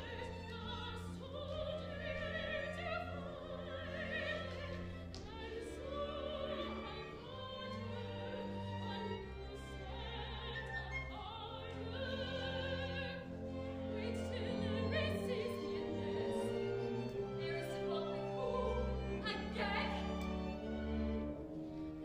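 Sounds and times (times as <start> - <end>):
orchestra playing: 0.0 - 22.0
women singing opera: 0.0 - 22.0.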